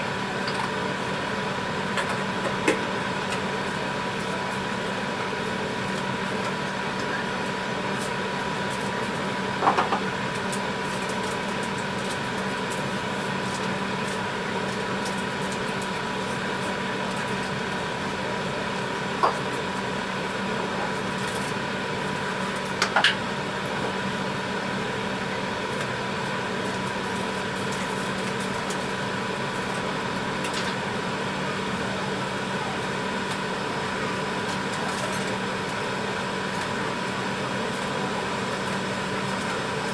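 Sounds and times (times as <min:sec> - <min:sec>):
pan at a rolling boil: 0:00.0 - 0:39.9.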